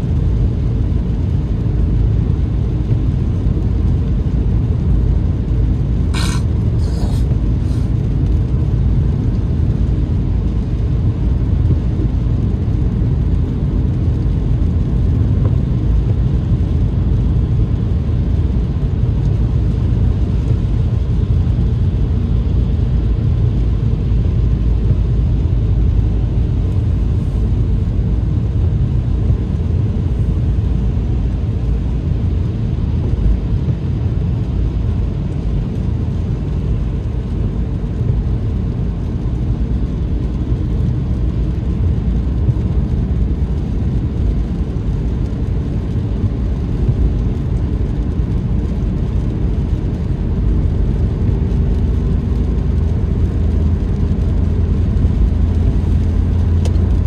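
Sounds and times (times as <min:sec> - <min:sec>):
car driving on road: 0:00.0 - 0:57.0.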